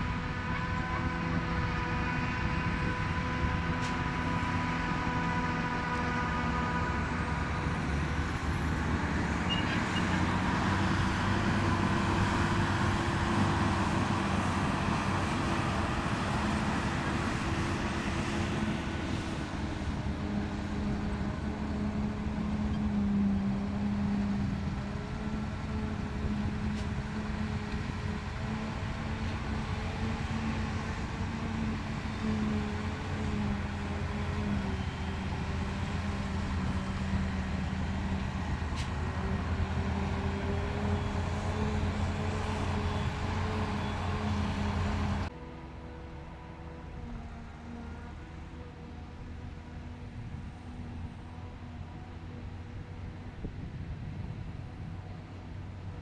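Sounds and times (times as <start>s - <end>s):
diesel machinery engines running: 0.0s - 56.0s.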